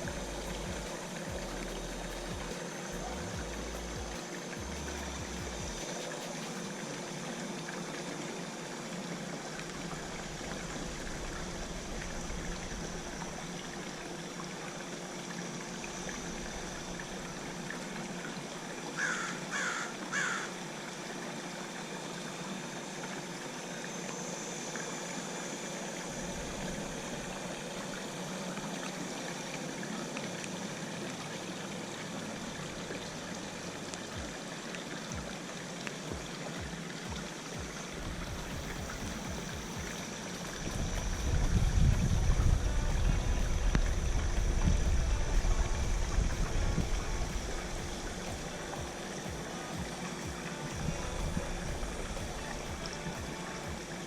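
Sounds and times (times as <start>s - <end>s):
faint steady hum: 0.0s - 54.0s
water trickling: 0.0s - 54.0s.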